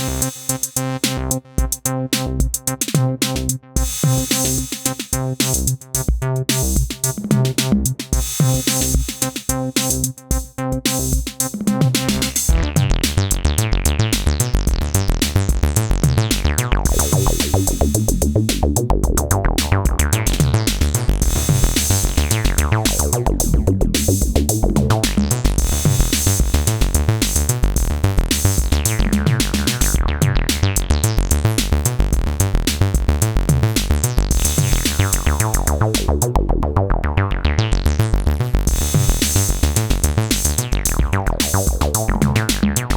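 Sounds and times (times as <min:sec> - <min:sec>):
drum machine beat: 0:00.0 - 0:36.5, 0:38.6 - 0:42.9
acid bass line with filter sweeps: 0:00.0 - 0:42.9.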